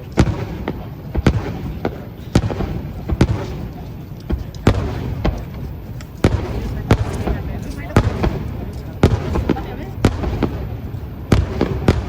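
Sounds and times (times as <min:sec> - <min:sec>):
crowd noise: 0:00.0 - 0:12.0
fireworks booming: 0:00.0 - 0:12.0.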